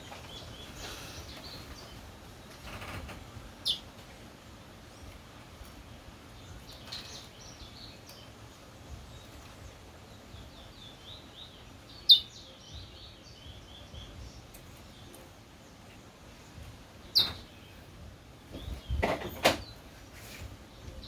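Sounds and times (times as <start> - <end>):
bird chirping: 0.0 - 4.0, 4.8 - 21.0
low steady background rumble: 0.0 - 21.0.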